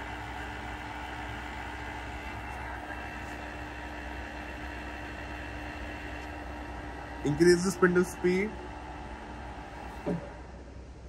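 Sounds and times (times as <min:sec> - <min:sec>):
milling machine spindle humming: 0:00.0 - 0:11.0.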